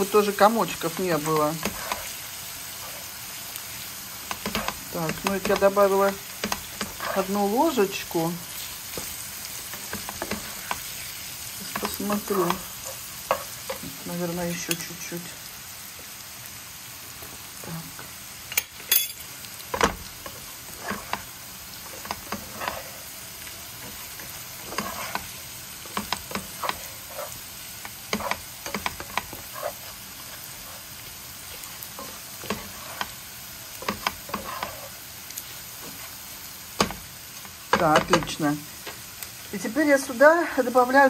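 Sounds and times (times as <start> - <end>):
spatula scraping a pan: 0.0 - 14.9, 17.2 - 38.4
meat sizzling in a pan: 0.0 - 41.0.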